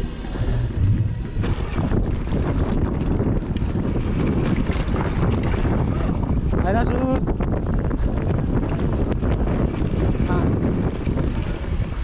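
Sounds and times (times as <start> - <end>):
bike clattering and rattling: 0.0 - 12.0
wind rumbling on microphone: 0.0 - 12.0.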